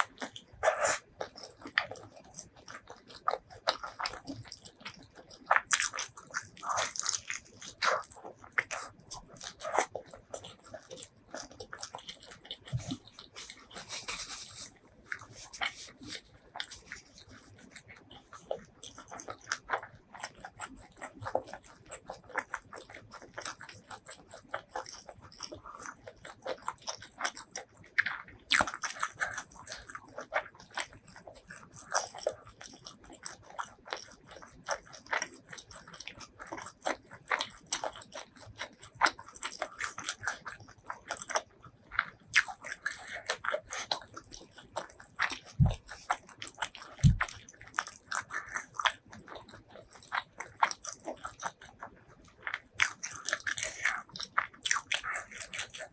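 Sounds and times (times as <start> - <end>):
person chewing crunchy food: 0.0 - 55.9
wet mouth sounds: 0.0 - 55.9.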